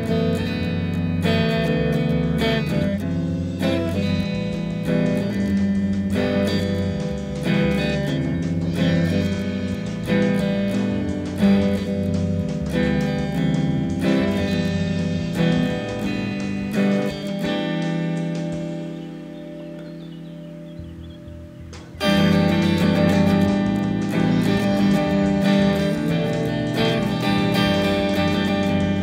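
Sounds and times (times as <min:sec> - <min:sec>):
guitar chords strummed: 0:00.0 - 0:29.0.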